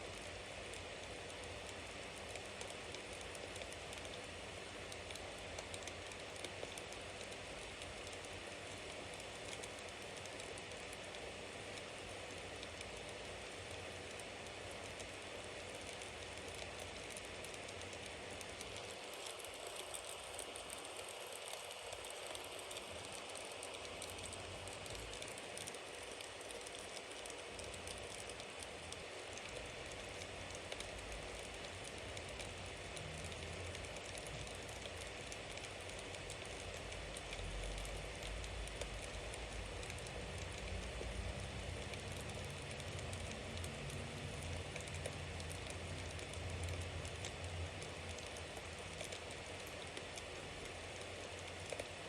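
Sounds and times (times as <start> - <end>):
bonfire crackling and popping: 0.1 - 52.0.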